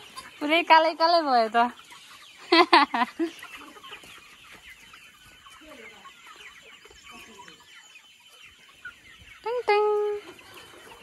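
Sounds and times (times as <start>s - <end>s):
chickens clucking and chirping: 0.0s - 11.0s.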